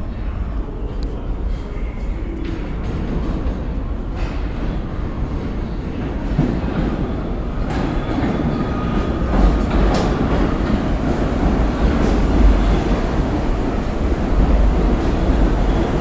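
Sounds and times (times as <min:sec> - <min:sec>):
subway train wheels rumbling: 0:00.0 - 0:16.0
wheels clacking on rails: 0:02.4 - 0:16.0.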